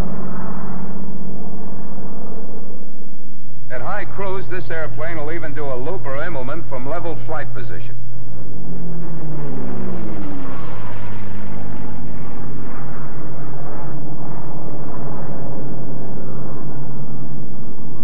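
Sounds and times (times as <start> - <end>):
propeller plane engine in flight: 0.0 - 18.0.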